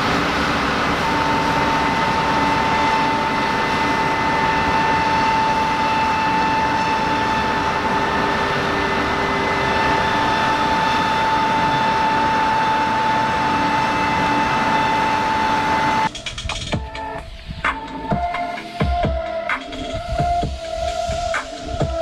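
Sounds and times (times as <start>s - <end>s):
farm machine engine drone: 0.0s - 22.0s
high whine: 0.0s - 22.0s
electronic music: 1.1s - 22.0s.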